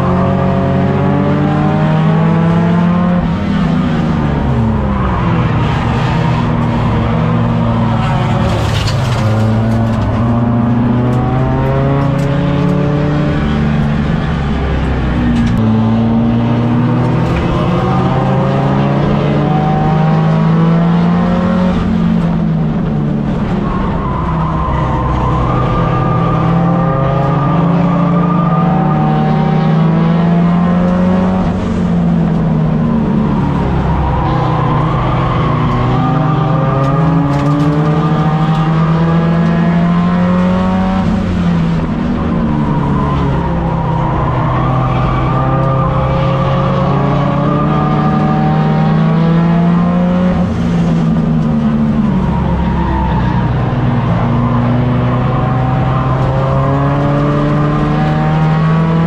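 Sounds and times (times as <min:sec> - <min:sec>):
race car engine under load: 0:00.0 - 0:59.0
tyre and road noise: 0:00.0 - 0:59.0.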